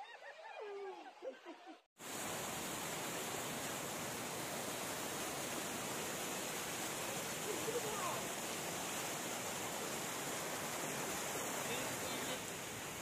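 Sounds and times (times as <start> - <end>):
floodwater rushing: 2.0 - 13.0.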